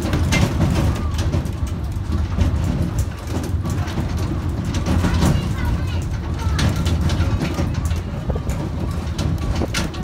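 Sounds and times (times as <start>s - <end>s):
mini train rumbling: 0.0s - 10.0s.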